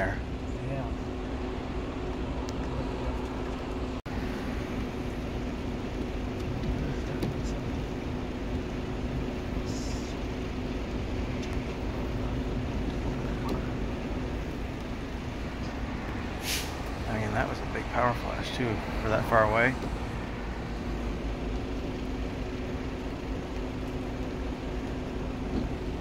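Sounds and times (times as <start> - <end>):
car passing: 0.0 - 23.7
road noise: 0.0 - 26.0
vehicle engine hum: 0.0 - 26.0.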